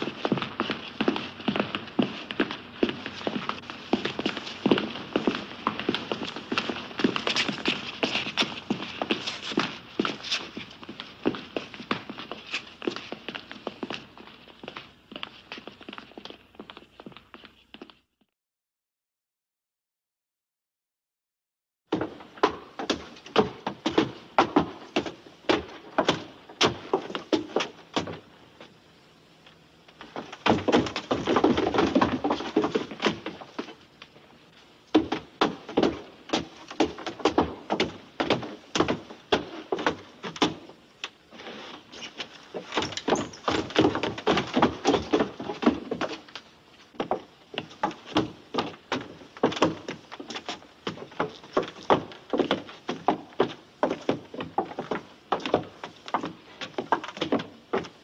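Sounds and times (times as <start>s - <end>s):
footsteps on wooden boards: 0.0s - 18.0s, 21.9s - 58.0s.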